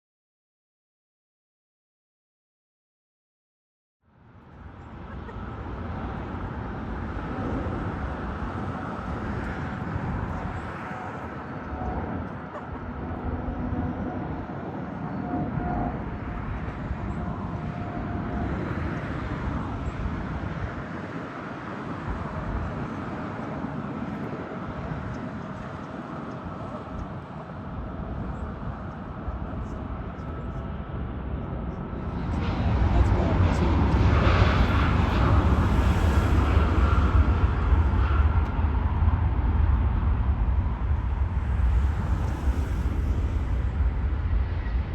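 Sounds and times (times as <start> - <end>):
jet engines rushing and whining: 4.2 - 44.9.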